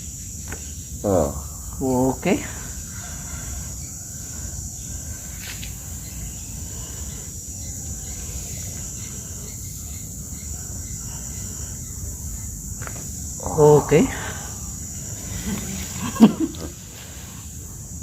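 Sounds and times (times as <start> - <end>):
high-pitched hiss: 0.0 - 18.0.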